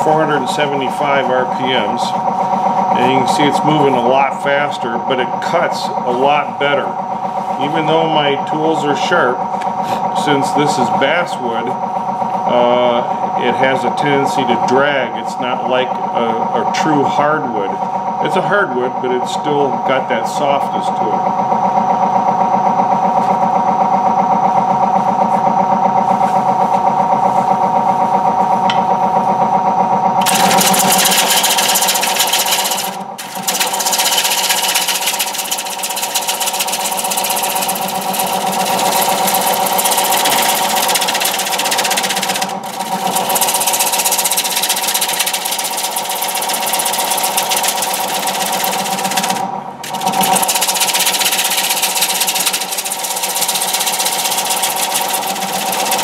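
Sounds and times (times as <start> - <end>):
lathe motor humming: 0.0 - 56.0.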